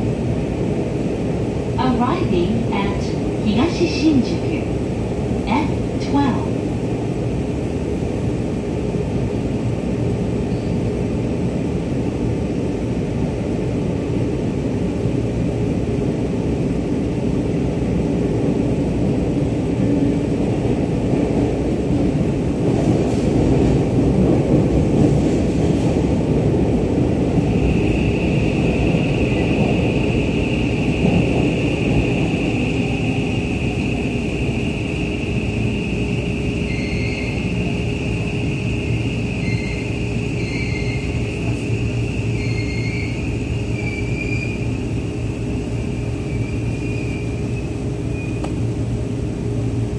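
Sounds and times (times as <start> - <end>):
train wheel and rail rumble: 0.0 - 49.9.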